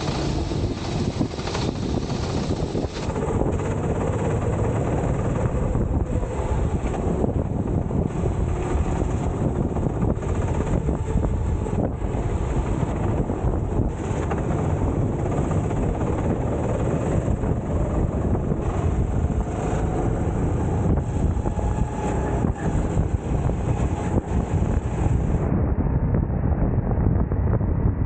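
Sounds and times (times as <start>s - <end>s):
racing kart engine under load: 0.0s - 25.4s
wind buffeting the microphone: 0.0s - 28.0s.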